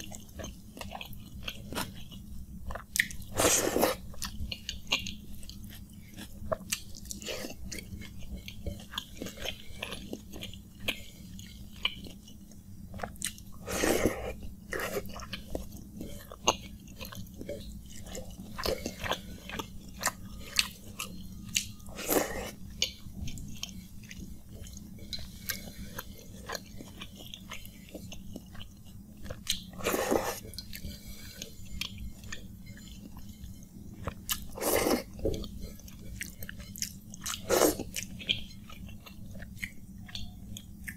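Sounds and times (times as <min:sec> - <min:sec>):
person chewing with mouth smacks: 0:00.0 - 0:40.9.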